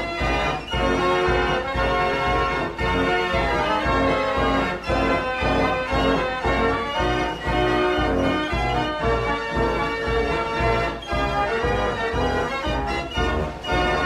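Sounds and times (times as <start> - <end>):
held keyboard chords: 0.0 - 14.0.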